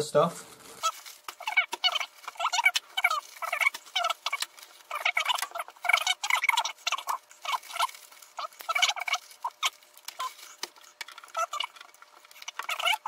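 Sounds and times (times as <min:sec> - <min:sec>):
plastic wrappers crinkling: 0:00.2 - 0:13.0.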